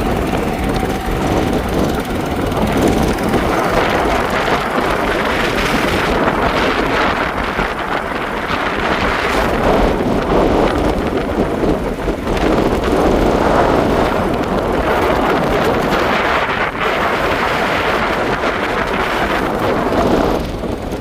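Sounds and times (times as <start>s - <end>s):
motorbike running and road noise: 0.0s - 21.0s
wind rushing over microphone: 0.0s - 21.0s.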